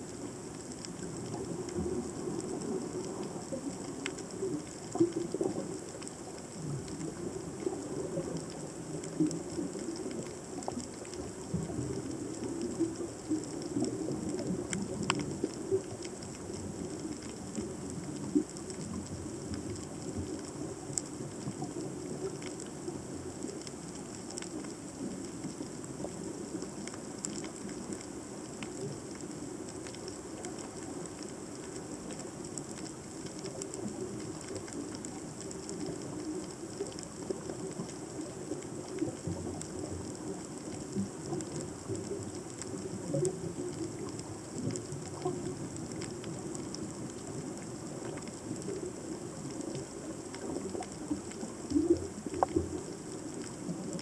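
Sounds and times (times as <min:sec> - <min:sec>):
crackle of tiny clicks: 0:00.0 - 0:54.0
underwater rumble of moving water: 0:00.0 - 0:54.0.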